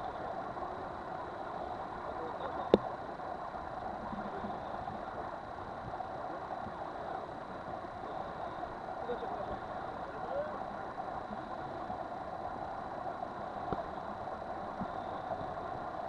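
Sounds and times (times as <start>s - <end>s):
boat motor and water wash: 0.0s - 16.0s.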